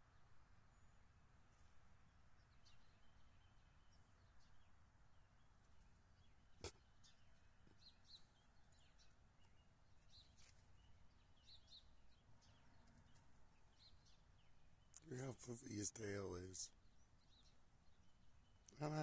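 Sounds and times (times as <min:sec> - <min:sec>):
distant birds chirping: 0:00.0 - 0:19.0.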